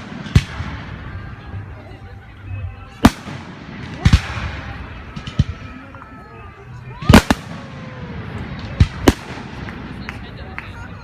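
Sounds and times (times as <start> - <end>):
fireworks bursting with bangs: 0.0 - 1.8, 2.8 - 6.3, 6.9 - 11.0
fireworks crackles: 0.0 - 11.0.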